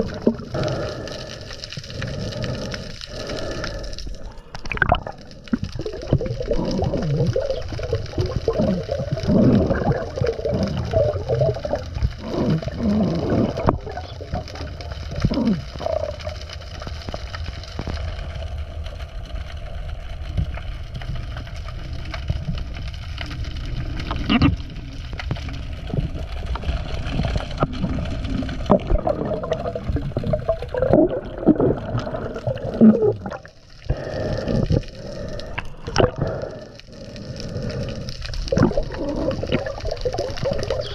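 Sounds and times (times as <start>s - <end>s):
water sloshing and gurgling: 0.0s - 19.5s, 20.2s - 40.9s.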